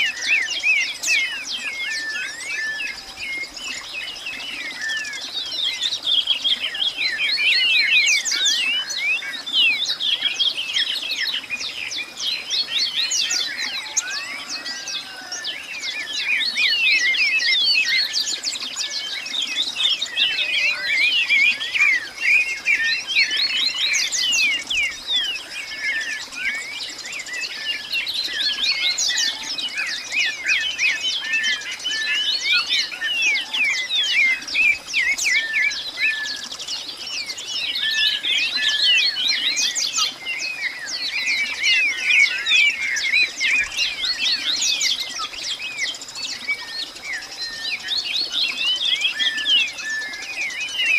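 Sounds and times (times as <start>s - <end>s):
chorus of birds chirping: 0.0s - 50.9s.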